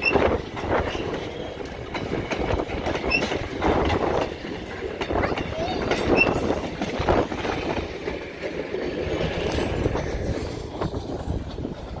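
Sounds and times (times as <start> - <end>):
train cars rumbling and clicking: 0.0 - 12.0.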